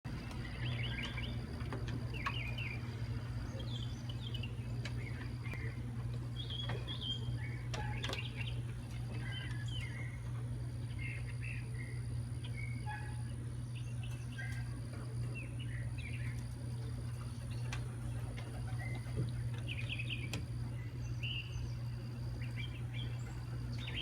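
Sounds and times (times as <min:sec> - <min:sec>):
low hum: 0:00.1 - 0:24.0
small birds chirping: 0:00.1 - 0:24.0.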